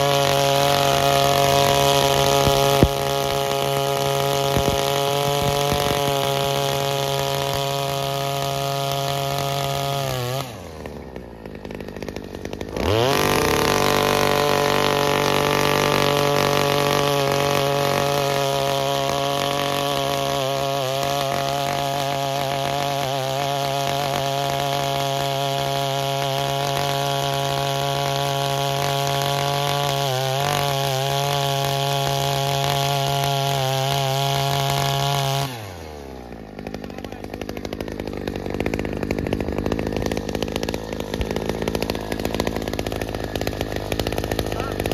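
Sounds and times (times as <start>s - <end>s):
earth auger engine: 0.0s - 44.9s.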